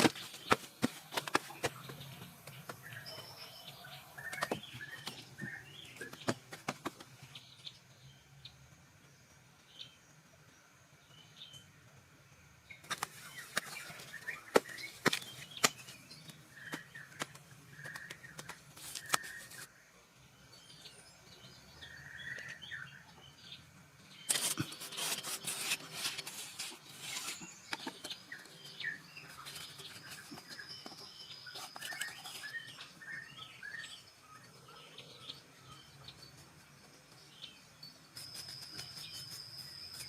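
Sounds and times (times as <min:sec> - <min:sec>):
birds chirping: 0:00.0 - 0:08.6, 0:12.6 - 0:40.0.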